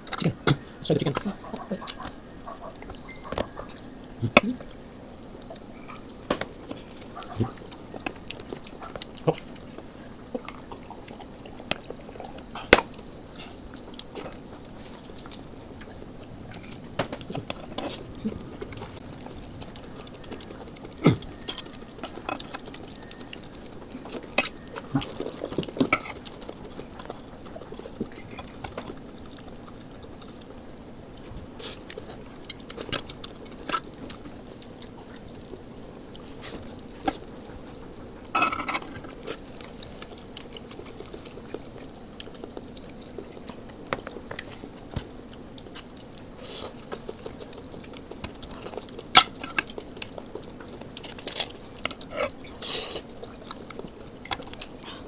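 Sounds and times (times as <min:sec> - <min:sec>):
chewing and biting: 0:00.0 - 0:55.0.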